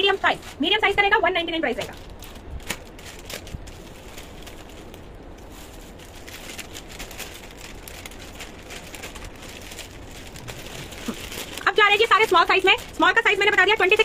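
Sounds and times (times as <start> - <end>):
garments rustling: 0.0 - 14.0.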